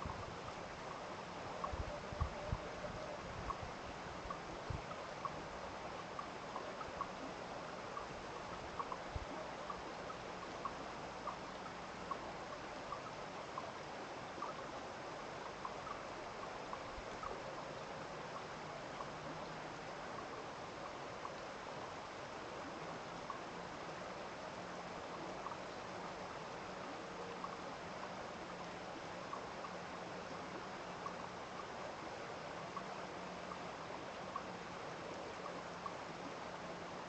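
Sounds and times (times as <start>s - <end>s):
stream water trickling: 0.0s - 37.0s.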